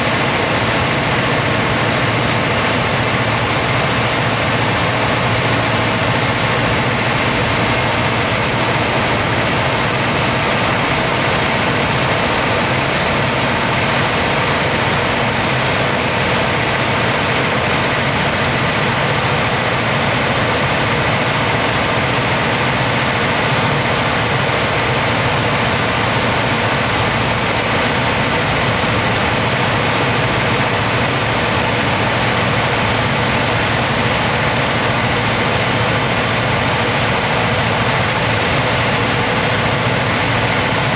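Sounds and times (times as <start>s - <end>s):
propeller aircraft engine running: 0.0s - 40.9s.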